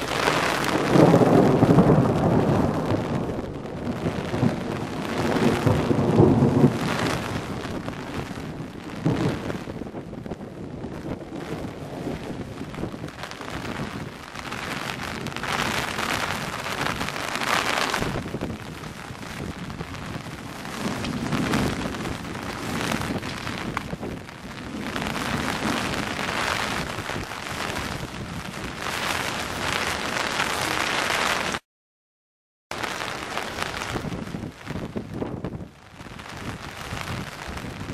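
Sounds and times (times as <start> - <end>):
wind buffeting the microphone: 0.0 - 31.6, 33.0 - 37.9
heavy rain on an umbrella: 0.0 - 31.7, 32.7 - 37.9.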